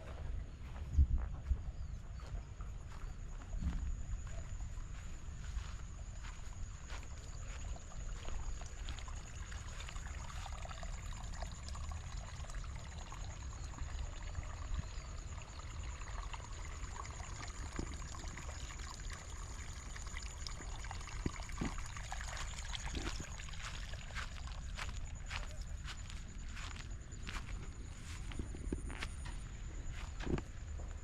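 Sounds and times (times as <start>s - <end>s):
water trickling: 2.7s - 31.0s.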